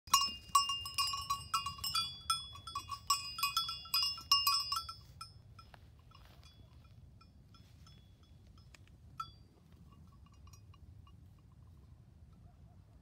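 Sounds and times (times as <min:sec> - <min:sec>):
sheep bell clinking: 0:00.1 - 0:12.4.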